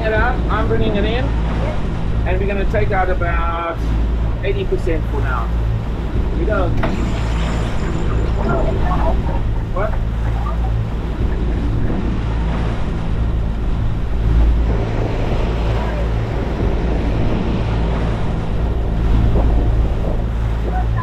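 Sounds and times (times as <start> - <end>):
rough seas rushing and splashing: 0.0 - 21.0
steady low drone: 0.0 - 21.0
wind buffeting the microphone: 0.0 - 21.0.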